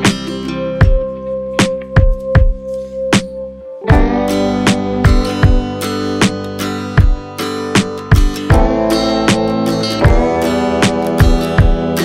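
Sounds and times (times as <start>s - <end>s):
strummed guitar over a beat: 0.0s - 12.0s.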